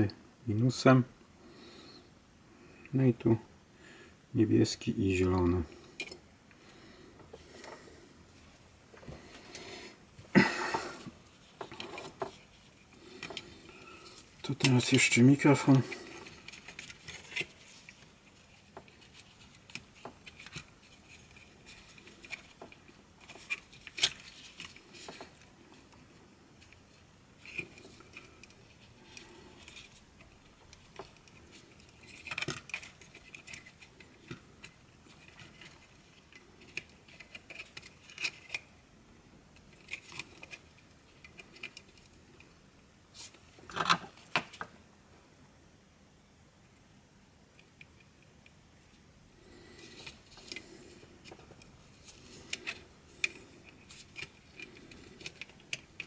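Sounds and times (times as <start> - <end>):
gloved hands handling plastic parts: 4.8 - 44.9, 47.5 - 56.0.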